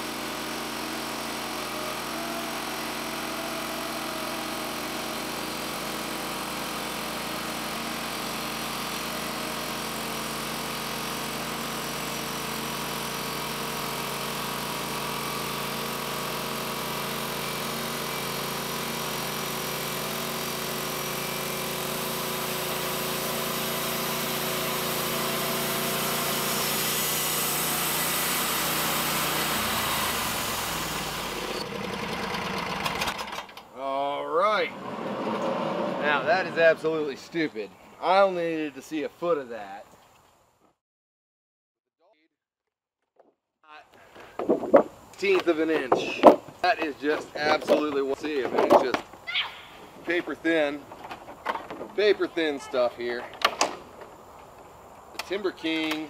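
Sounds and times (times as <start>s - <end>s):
bandsaw mill engine running: 0.0s - 38.8s, 43.9s - 56.0s.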